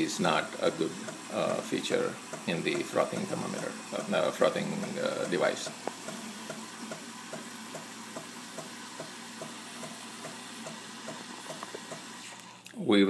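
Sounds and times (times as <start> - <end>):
pump ticking: 0.0 - 12.3
steam hissing from milk frother: 0.0 - 12.6.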